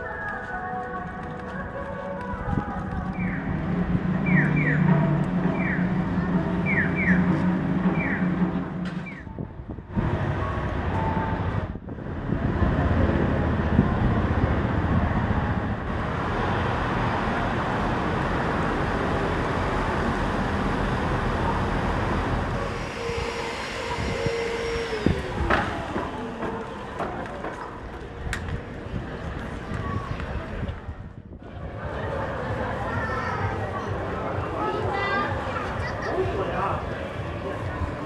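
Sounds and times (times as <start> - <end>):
urban traffic passing: 0.0 - 38.0.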